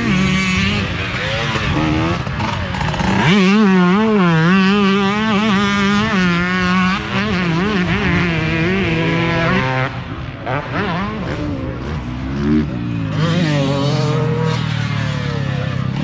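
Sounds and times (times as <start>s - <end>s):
dirt bike engine revving: 0.0s - 16.0s
drone of other motorbikes: 0.0s - 16.0s.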